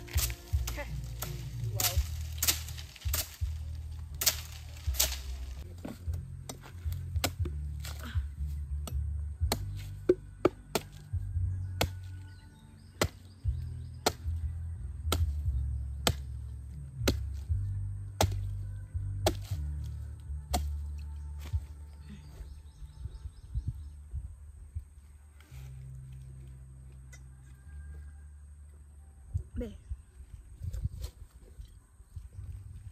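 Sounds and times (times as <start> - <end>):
background music with deep bass: 0.0 - 29.7.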